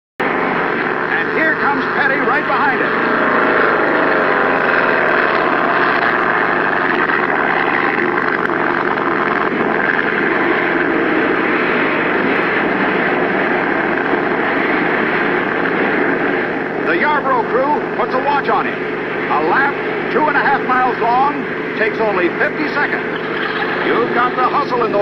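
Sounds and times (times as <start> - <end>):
race car engines roaring: 0.2 - 25.0.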